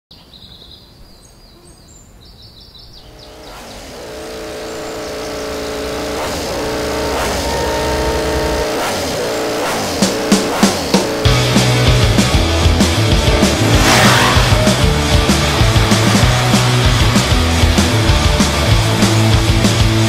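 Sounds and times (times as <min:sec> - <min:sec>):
birds chirping: 0:00.1 - 0:19.7
steady engine drone: 0:03.0 - 0:20.0.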